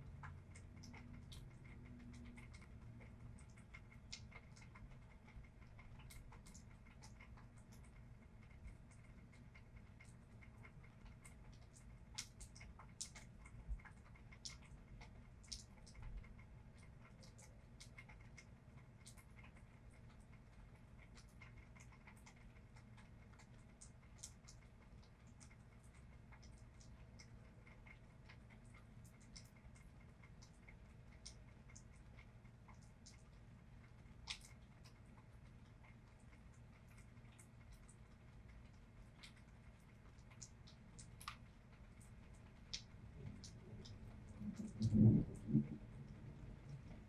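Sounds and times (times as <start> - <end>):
low background rumble: 0.0 - 47.0
raindrops ticking and dripping: 0.0 - 47.0.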